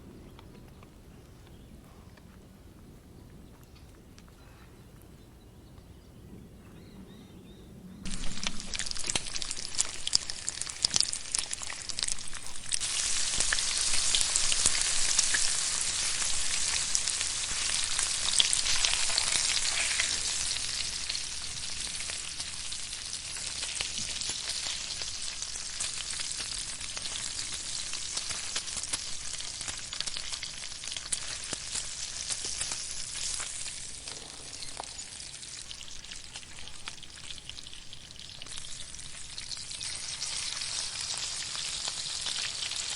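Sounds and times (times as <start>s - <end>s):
food sizzling over fire: 8.0s - 42.9s.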